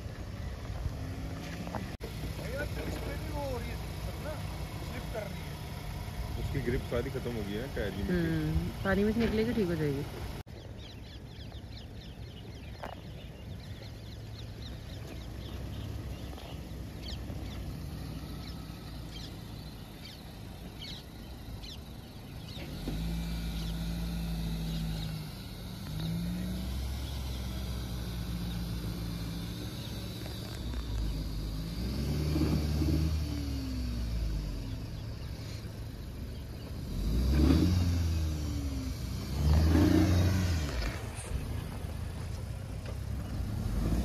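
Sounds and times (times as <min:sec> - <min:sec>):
birds chirping: 0:00.0 - 0:44.0
engine running and revving: 0:00.0 - 0:44.0.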